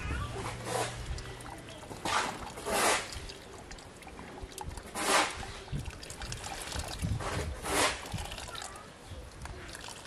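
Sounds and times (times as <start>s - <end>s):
liquid splashing onto basket: 0.4s - 8.8s.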